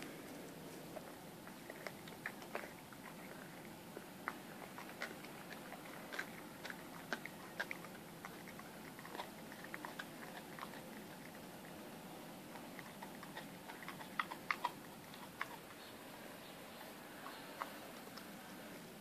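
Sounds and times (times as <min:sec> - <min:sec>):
dog chewing bone: 0:00.7 - 0:15.9, 0:16.7 - 0:18.6.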